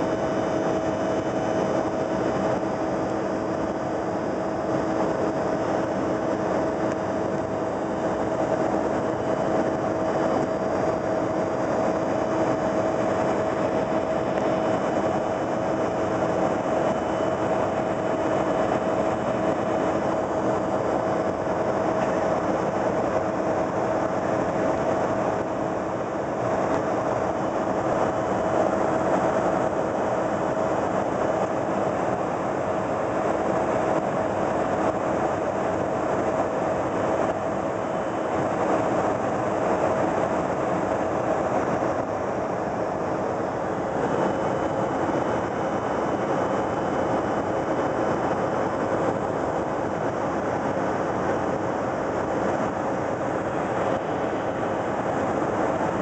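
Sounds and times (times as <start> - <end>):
airliner cabin engine rush: 0.0 - 56.0
constant hum: 0.0 - 56.0.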